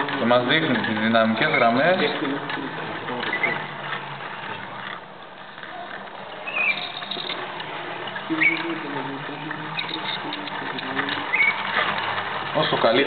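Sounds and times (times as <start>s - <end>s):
electrostatic machine whirring and clicking: 0.0s - 13.0s.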